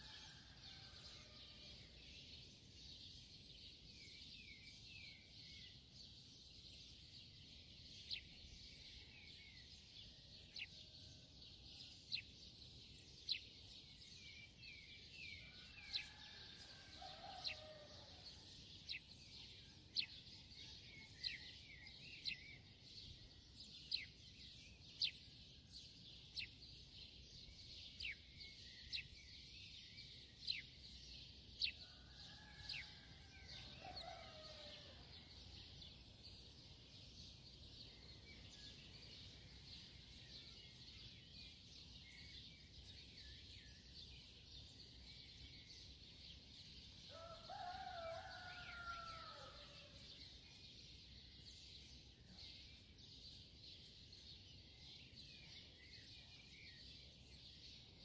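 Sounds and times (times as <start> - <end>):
faint birds chirping: 0.0 - 58.0.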